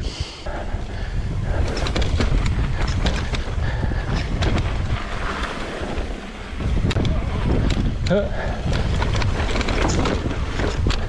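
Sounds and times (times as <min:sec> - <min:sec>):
wind buffeting microphone: 0:00.0 - 0:11.0
bike rattling over rough ground: 0:00.5 - 0:11.0
low rumble: 0:00.5 - 0:11.0.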